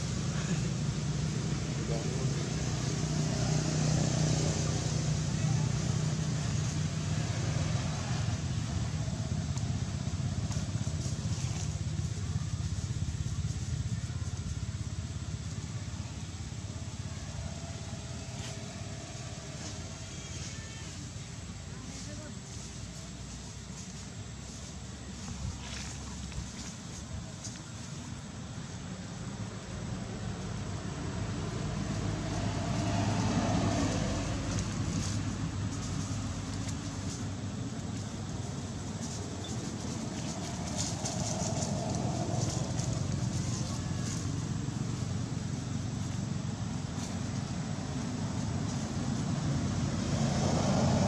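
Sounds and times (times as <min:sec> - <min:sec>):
engine running with pulsing rumble: 0:00.0 - 0:20.3, 0:22.1 - 0:51.0.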